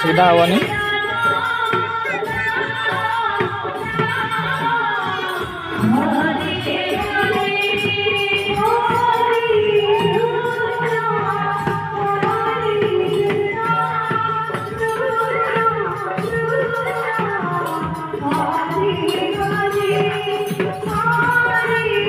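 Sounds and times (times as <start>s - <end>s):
hand drum beat: 0.0s - 22.0s
person singing devotional music: 0.0s - 22.0s
small jingling cymbals: 0.0s - 22.0s.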